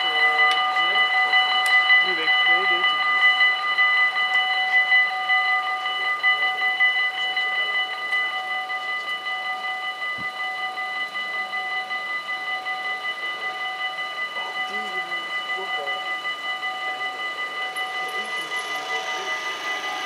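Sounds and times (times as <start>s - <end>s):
level crossing warning bells: 0.0s - 20.0s.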